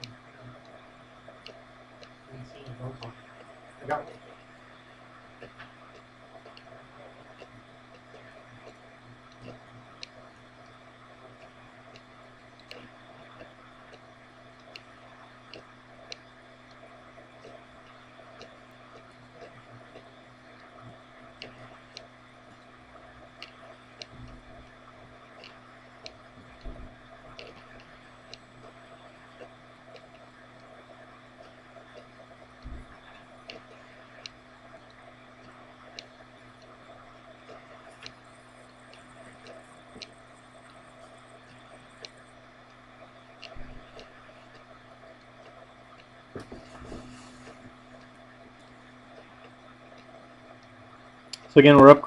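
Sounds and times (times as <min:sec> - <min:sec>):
faint ticks and clicks: 0:00.0 - 0:52.0
steady low hum: 0:00.0 - 0:52.0.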